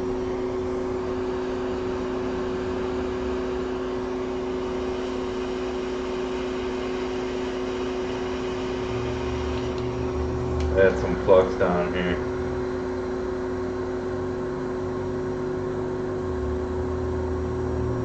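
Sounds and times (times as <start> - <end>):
electric fan whirring: 0.0 - 18.0.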